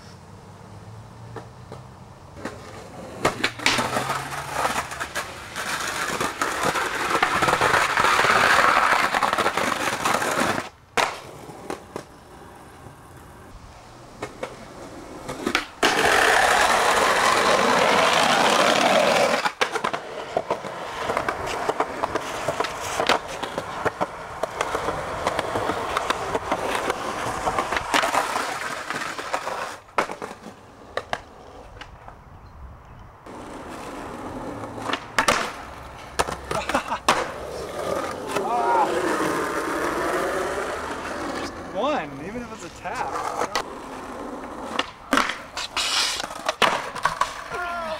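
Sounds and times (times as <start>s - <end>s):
skateboard wheels rolling on concrete: 0.0s - 47.9s
skateboard clacks and grinds: 1.3s - 13.3s, 14.1s - 32.2s, 33.2s - 41.7s, 42.6s - 47.9s.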